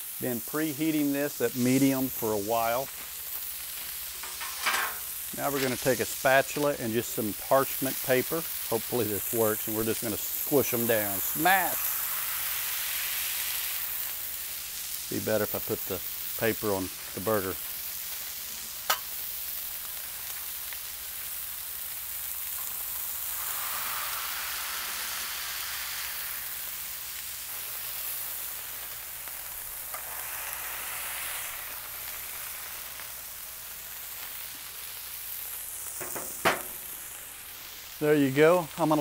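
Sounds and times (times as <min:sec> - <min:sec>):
meat sizzling on griddle: 0:00.0 - 0:39.0.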